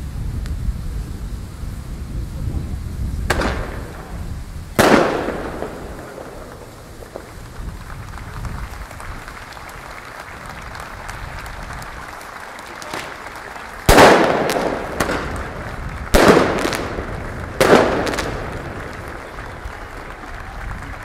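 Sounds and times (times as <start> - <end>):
wind rumble on microphone: 0.0 - 12.4, 13.1 - 21.0
firecracker bangs: 3.1 - 21.0.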